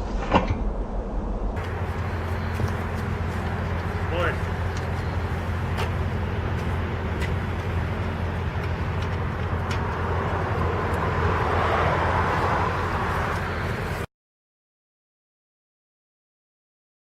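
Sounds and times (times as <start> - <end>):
engine humming: 0.0 - 14.1
rushing noise: 0.0 - 14.1.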